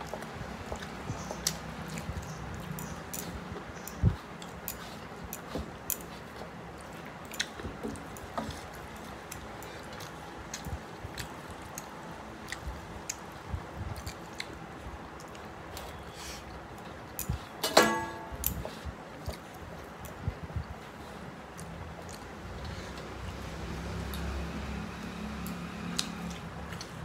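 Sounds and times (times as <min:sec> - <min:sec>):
chewing with wet mouth sounds: 0:00.0 - 0:17.6, 0:18.4 - 0:27.0.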